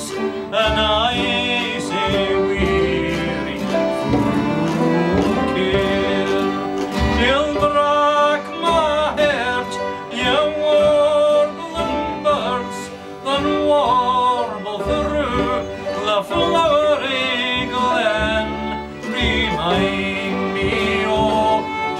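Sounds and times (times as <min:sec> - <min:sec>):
guitar accompaniment: 0:00.0 - 0:21.9
man singing folk song: 0:00.0 - 0:21.9.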